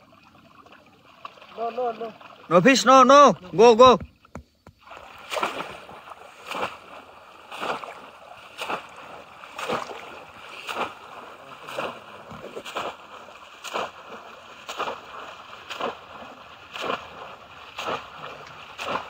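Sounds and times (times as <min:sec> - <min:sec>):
fish traps splashing in water: 0:00.0 - 0:04.0, 0:04.7 - 0:19.0.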